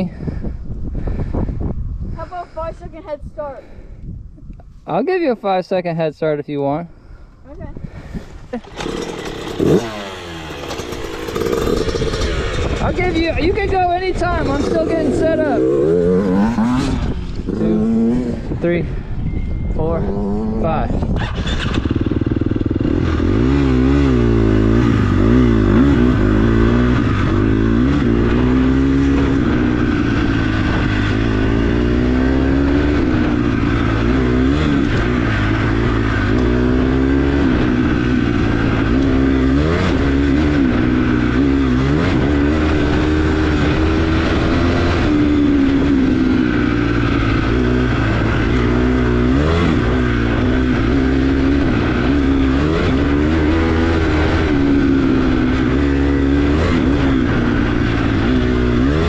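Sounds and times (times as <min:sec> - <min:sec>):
dirt bike engine revving: 0:08.5 - 0:18.8, 0:20.1 - 0:59.0.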